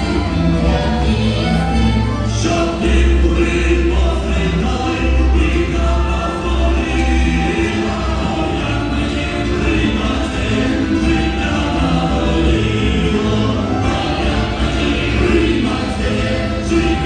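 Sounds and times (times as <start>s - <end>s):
choir singing in parts: 0.0s - 17.0s.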